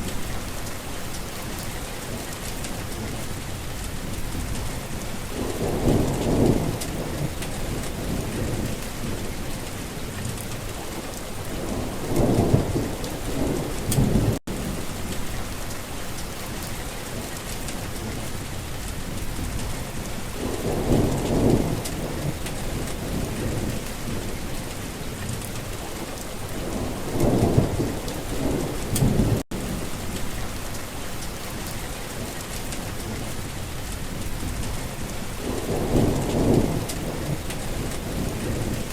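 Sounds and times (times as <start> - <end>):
heavy rain: 0.0 - 38.9
thunder rumbling: 0.0 - 38.9.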